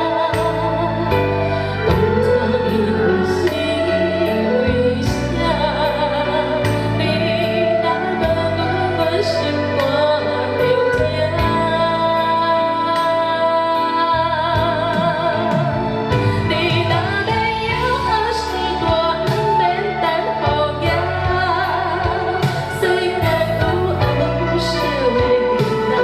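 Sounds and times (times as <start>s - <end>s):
traditional instrumental ensemble: 0.0s - 26.0s
woman singing with vibrato: 0.0s - 26.0s.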